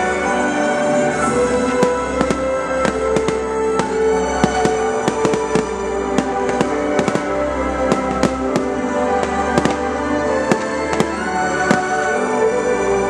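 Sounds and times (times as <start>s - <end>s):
fireworks bursting and crackling: 0.0s - 12.9s
music: 0.0s - 13.0s.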